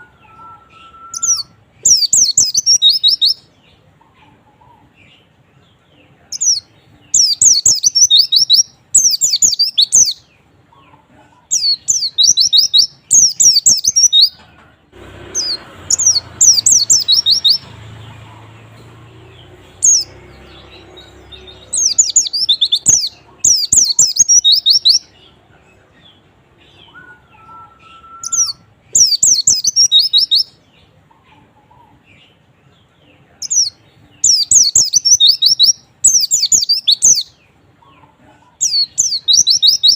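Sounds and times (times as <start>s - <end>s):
bird high twittering song: 0.0s - 14.4s, 15.1s - 39.9s.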